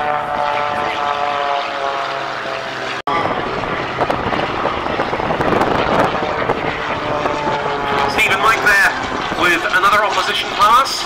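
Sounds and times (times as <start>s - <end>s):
propeller aircraft engines passing: 0.0s - 11.0s.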